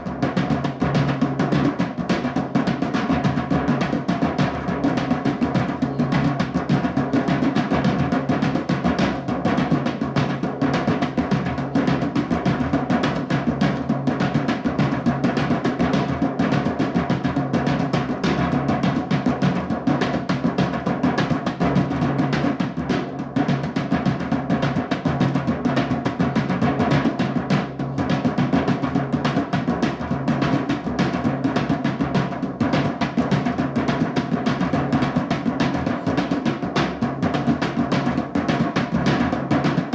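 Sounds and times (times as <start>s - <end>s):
rapid drumming: 0.0s - 39.9s.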